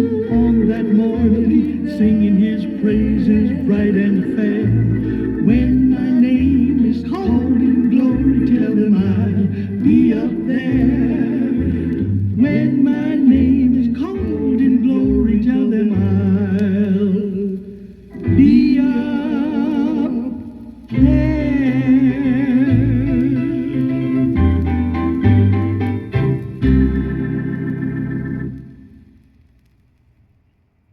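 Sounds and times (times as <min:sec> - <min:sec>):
person singing with vibrato: 0:00.0 - 0:24.8
low bass notes: 0:00.0 - 0:29.8.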